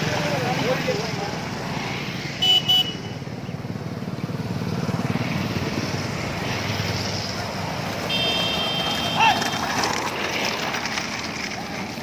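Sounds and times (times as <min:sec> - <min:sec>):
motorcycles passing: 0:00.0 - 0:12.0.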